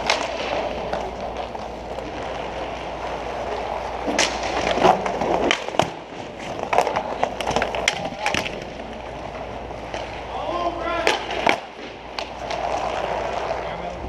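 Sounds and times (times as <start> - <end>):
clacks of sticks and puck: 0.0 - 9.0, 9.8 - 14.0
skate wheels rolling on plastic: 0.0 - 14.0.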